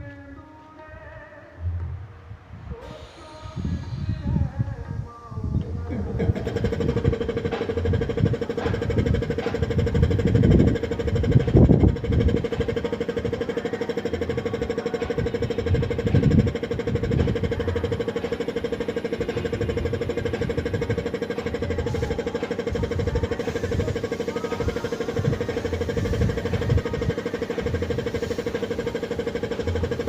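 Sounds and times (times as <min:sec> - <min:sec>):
low rumbles: 0:00.0 - 0:30.0
motor pulsing hum: 0:00.0 - 0:30.0.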